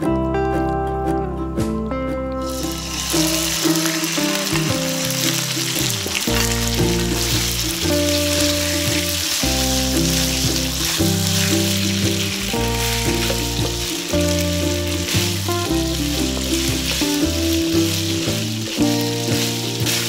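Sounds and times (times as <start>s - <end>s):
background music with bass: 0.0s - 20.0s
chicken sizzling in oil: 2.5s - 20.0s.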